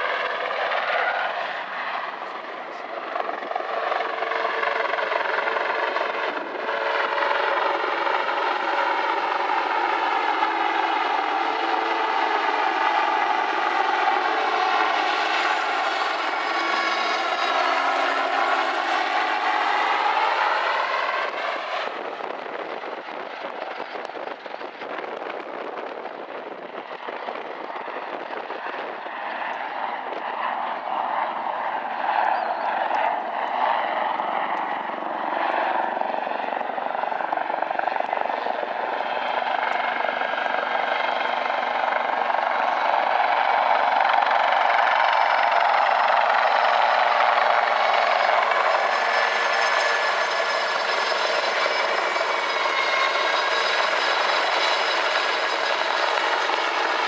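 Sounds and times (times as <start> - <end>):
helicopter rotor and engine: 0.0 - 57.0
high turbine whine: 0.0 - 57.0.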